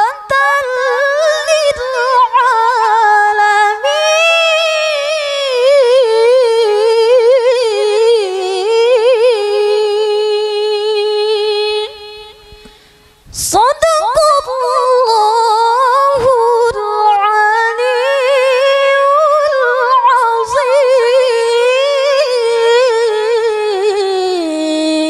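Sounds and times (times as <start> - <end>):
woman reciting melodically: 0.0 - 25.0.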